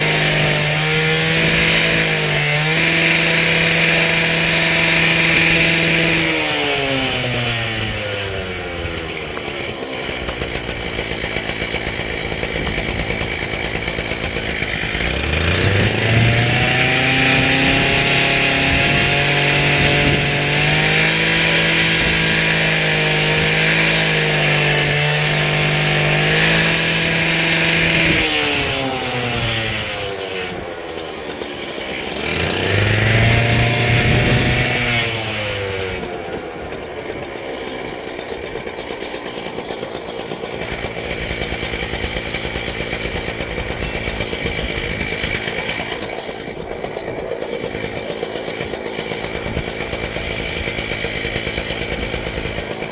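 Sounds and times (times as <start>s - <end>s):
handheld saw engine running: 0.0s - 52.9s.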